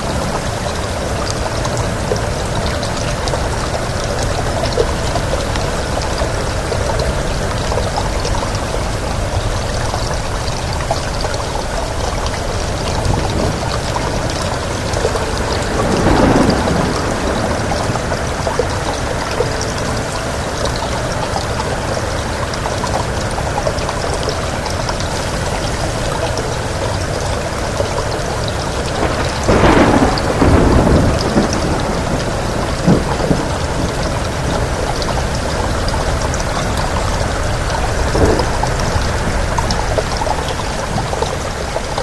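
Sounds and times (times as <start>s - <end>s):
steady rain: 0.0s - 42.0s
thunder rumbling: 0.0s - 42.0s.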